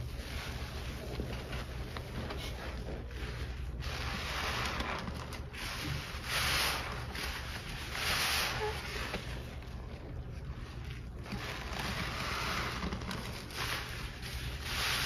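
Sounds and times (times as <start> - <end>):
wet sponge squelching: 0.0 - 15.0.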